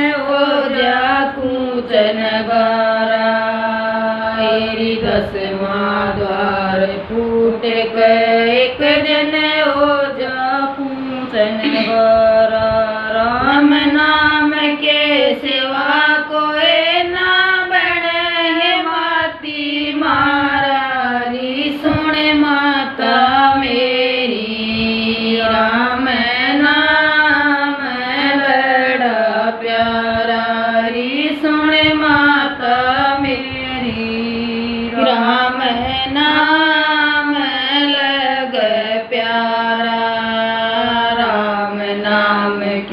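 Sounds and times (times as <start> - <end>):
two women singing devotional song: 0.0 - 42.9.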